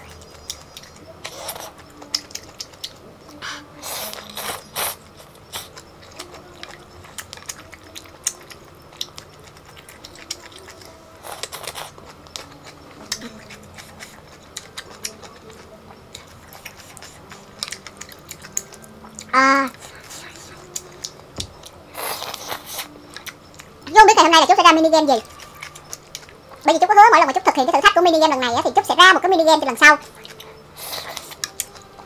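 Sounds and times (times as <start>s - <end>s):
wet chewing: 0.0s - 28.9s, 29.7s - 32.0s.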